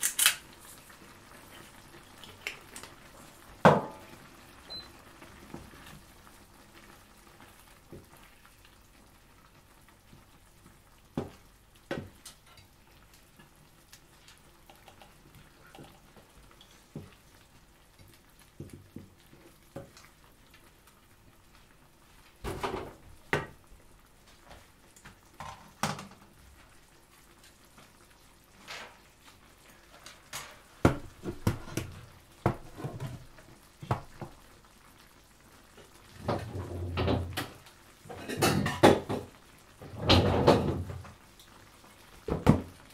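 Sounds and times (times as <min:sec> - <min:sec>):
sauce simmering: 0:00.4 - 0:40.0, 0:40.8 - 0:42.9.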